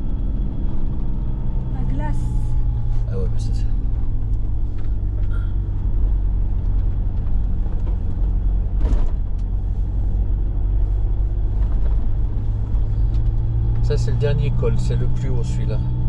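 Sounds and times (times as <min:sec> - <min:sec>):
car engine and road noise drone: 0:00.0 - 0:16.0.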